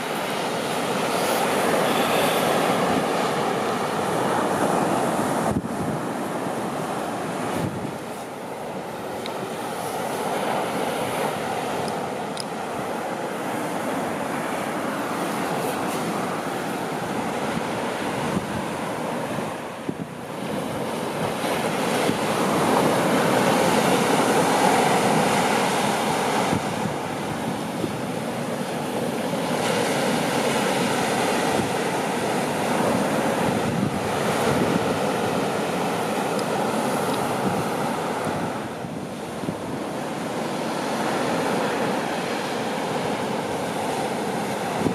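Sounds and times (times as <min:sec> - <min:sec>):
surf washing up beach: 0:00.0 - 0:44.9.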